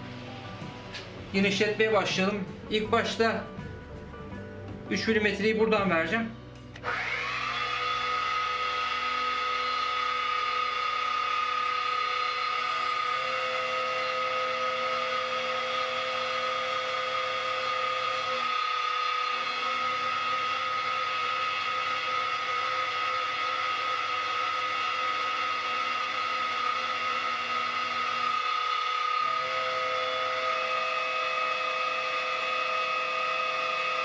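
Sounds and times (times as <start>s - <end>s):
end mill cutting metal: 6.8s - 34.0s
milling machine motor whine: 6.8s - 34.0s.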